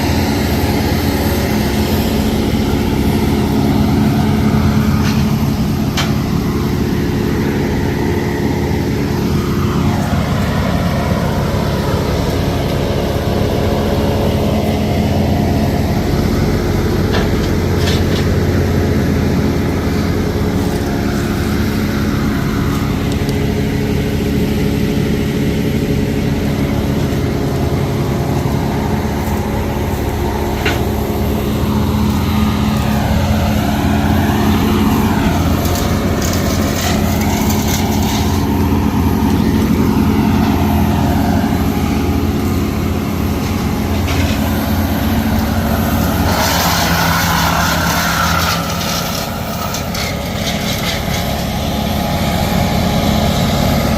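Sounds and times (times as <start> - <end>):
large engine running steadily: 0.0 - 53.9.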